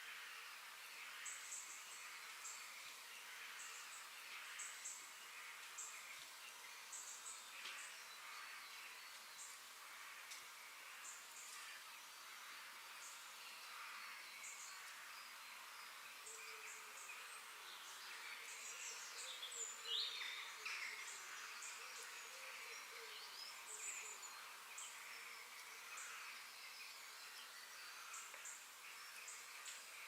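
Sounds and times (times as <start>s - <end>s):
faint high hiss: 0.0s - 30.0s.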